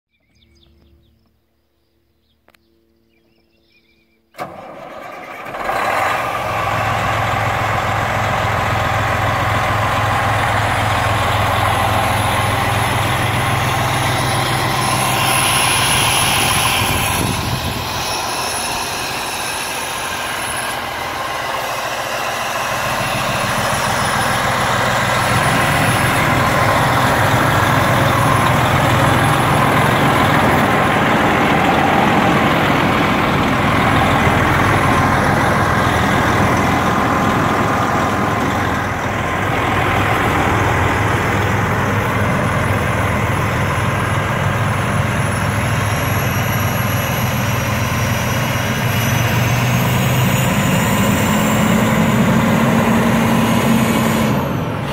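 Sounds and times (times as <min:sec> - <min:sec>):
diesel truck engine starting and idling: 0:04.3 - 0:54.9.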